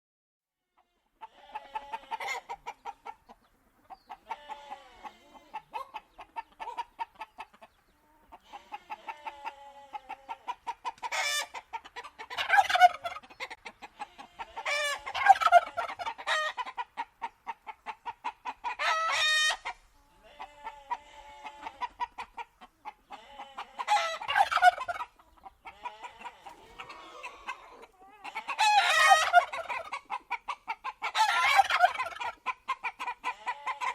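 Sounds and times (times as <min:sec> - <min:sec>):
chickens clucking: 0:00.7 - 0:33.9
loud chicken calls: 0:00.8 - 0:33.9.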